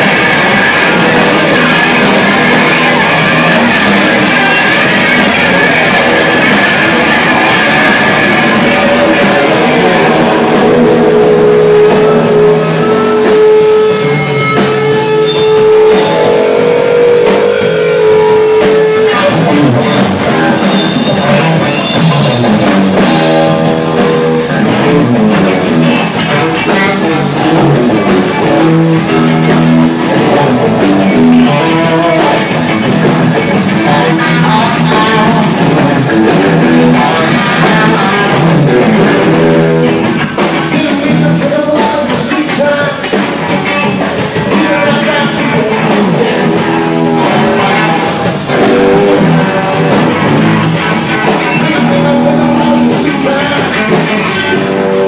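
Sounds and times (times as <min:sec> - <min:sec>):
blues-rock band playing: 0:00.0 - 0:55.0
drum kit: 0:00.0 - 0:55.0
electric guitars: 0:00.0 - 0:55.0.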